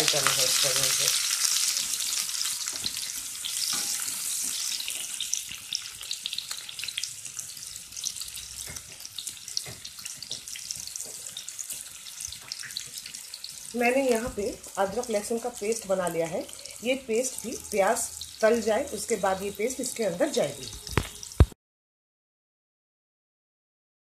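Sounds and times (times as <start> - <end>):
onions sizzling in oil: 0.0 - 21.6.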